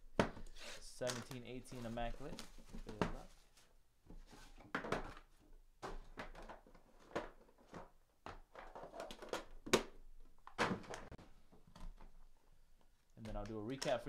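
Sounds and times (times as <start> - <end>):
cards rustling and tapping: 0.2 - 14.0.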